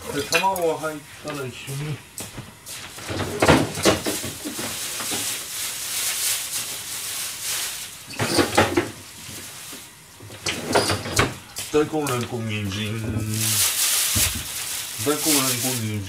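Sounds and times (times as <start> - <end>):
steady hiss: 0.0 - 10.2, 11.2 - 16.0.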